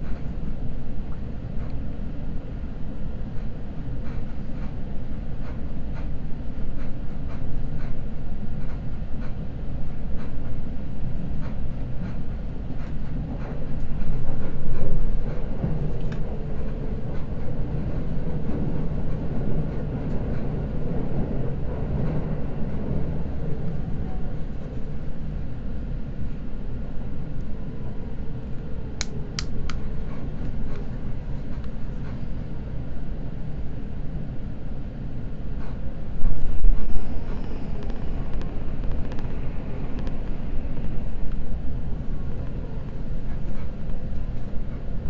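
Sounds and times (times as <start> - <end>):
train wheels and motors rumbling: 0.0 - 45.0.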